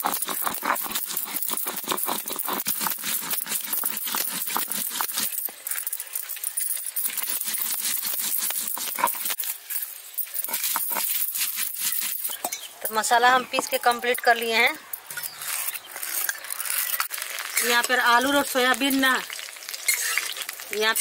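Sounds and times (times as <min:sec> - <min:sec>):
glass bangles clinking: 0:00.0 - 0:12.7, 0:13.6 - 0:18.0
stone roller grinding spices: 0:00.0 - 0:21.0.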